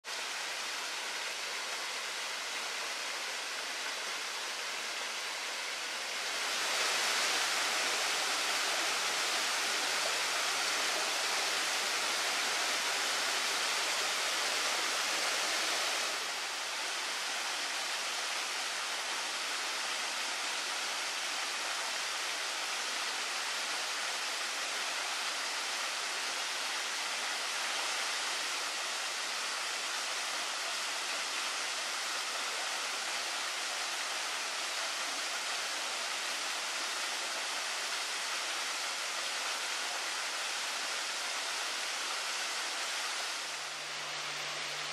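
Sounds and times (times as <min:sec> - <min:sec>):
waterfall splashing into pool: 0:06.0 - 0:44.9.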